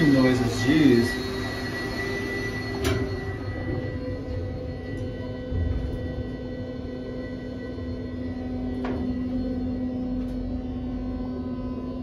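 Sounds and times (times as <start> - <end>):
elevator car humming: 0.0 - 12.0.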